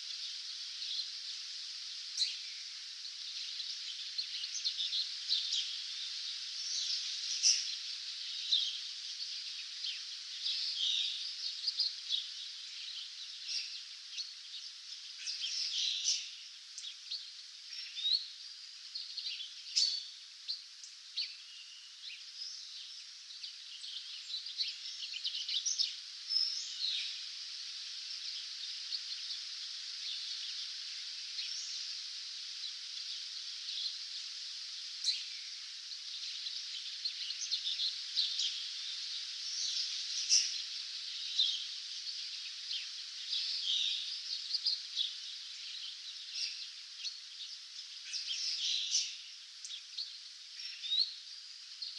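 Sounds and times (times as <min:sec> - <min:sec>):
songbirds chirping and trilling: 0:00.0 - 0:51.9
steady hiss: 0:00.0 - 0:51.9.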